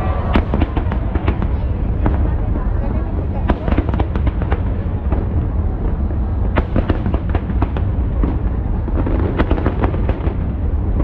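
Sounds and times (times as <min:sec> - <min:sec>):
fireworks bangs and crackles: 0:00.0 - 0:11.0
fireworks rumble: 0:00.0 - 0:11.0.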